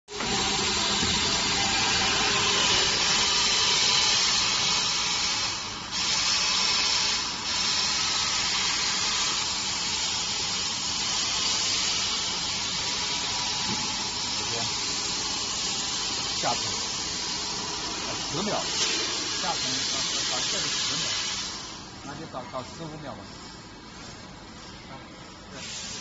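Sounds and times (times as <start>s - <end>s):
embossing machine hissing: 0.1s - 26.0s.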